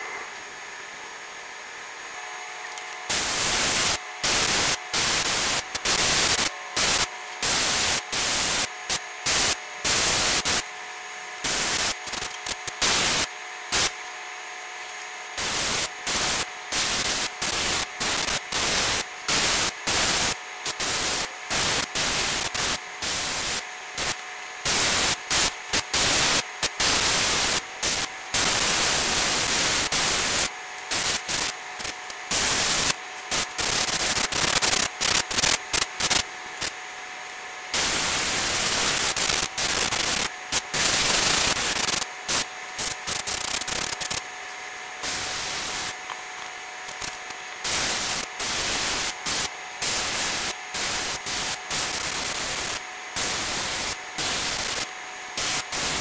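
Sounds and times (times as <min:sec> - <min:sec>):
loud harsh hissing: 0:03.1 - 0:10.6, 0:11.4 - 0:13.9, 0:15.4 - 0:36.8, 0:37.7 - 0:44.3, 0:45.0 - 0:46.0, 0:46.8 - 0:56.0.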